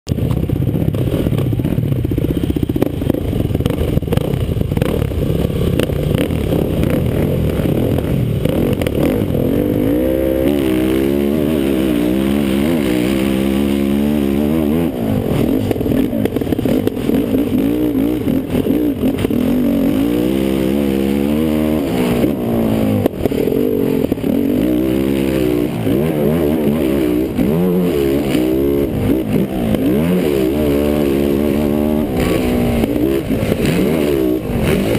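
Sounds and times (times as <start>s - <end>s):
quad bike engine revving: 0.1s - 34.9s.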